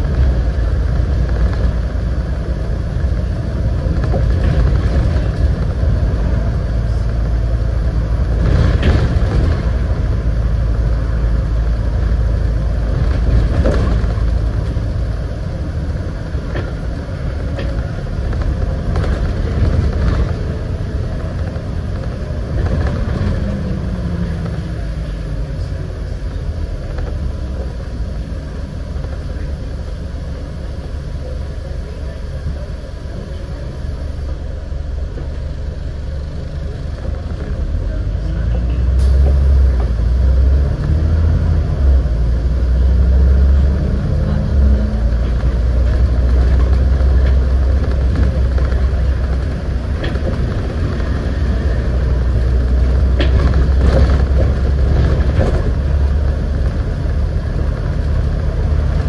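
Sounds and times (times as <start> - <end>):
bus diesel engine: 0.0 - 59.0
road rumble: 0.0 - 59.0.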